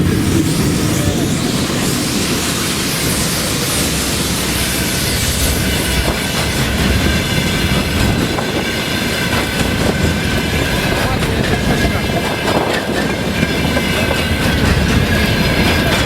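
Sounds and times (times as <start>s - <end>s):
high wheel squeal: 0.0s - 16.0s
train wheels rumbling and clattering: 0.0s - 16.0s.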